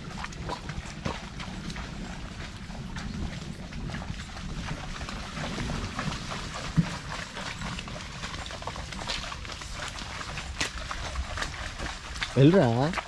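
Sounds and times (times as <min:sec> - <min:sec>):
hooves squelching in mud: 0:00.0 - 0:13.0.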